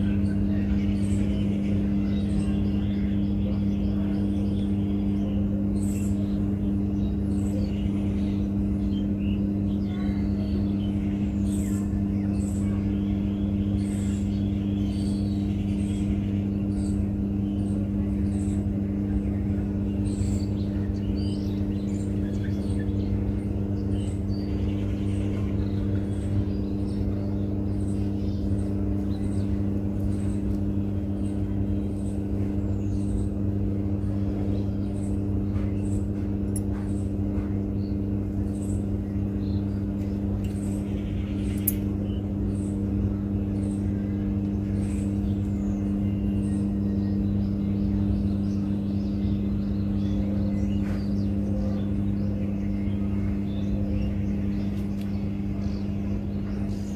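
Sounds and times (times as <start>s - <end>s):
mechanical hum: 0.0s - 56.9s.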